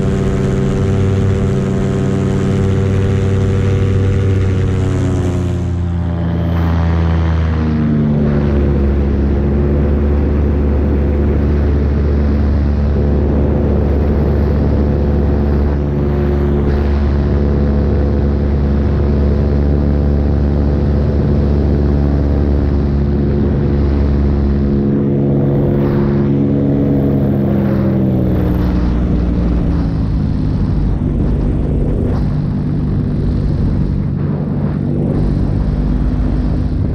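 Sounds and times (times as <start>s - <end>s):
paramotor engine droning: 0.0s - 36.9s.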